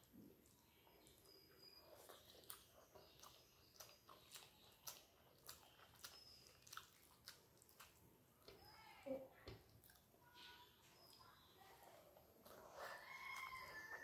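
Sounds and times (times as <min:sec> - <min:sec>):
person chewing food: 0:00.0 - 0:08.7, 0:09.5 - 0:14.0.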